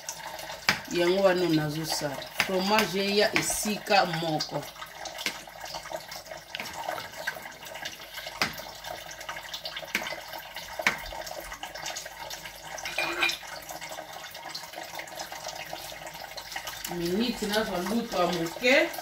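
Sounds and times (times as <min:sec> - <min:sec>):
thick sauce pouring: 0:00.0 - 0:18.5.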